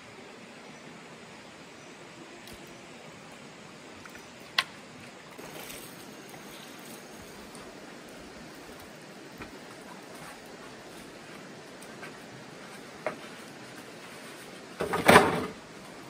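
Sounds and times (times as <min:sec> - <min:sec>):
stream water rushing: 0:00.0 - 0:14.8.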